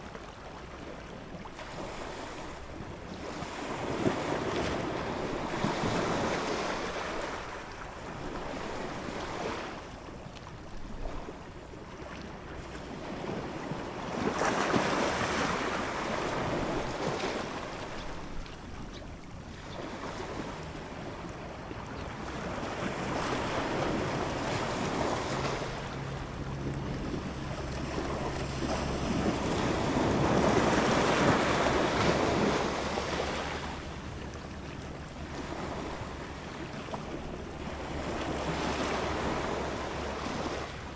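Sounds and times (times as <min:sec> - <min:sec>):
ocean waves breaking: 0:01.0 - 0:40.9.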